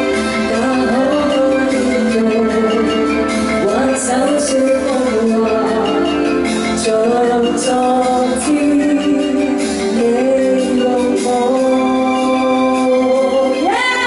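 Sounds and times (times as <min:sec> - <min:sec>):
backing track over pa: 0:00.0 - 0:14.0
woman singing pop ballad: 0:00.0 - 0:14.0.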